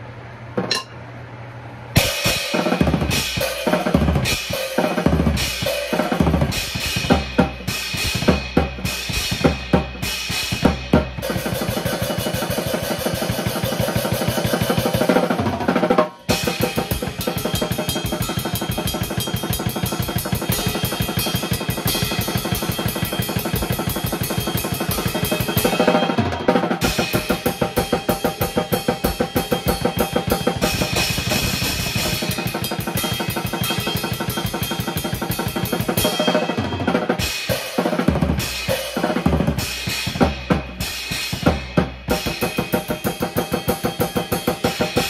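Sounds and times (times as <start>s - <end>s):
drum kit playing: 2.0s - 45.0s.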